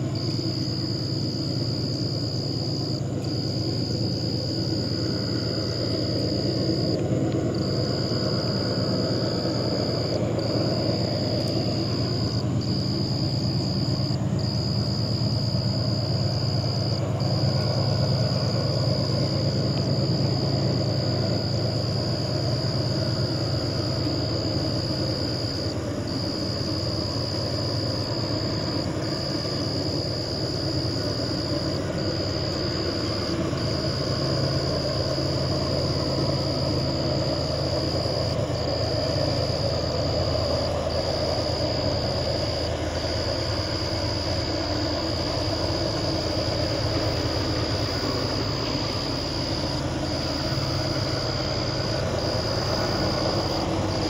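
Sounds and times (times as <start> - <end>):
distant locomotive engine rumble: 0.0 - 54.0.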